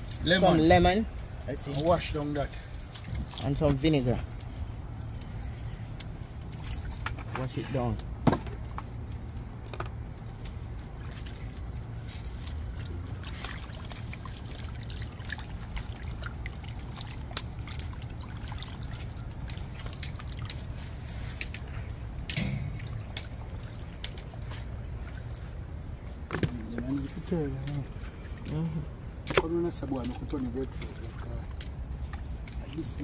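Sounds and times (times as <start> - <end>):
water pouring and trickling: 0.0 - 33.0.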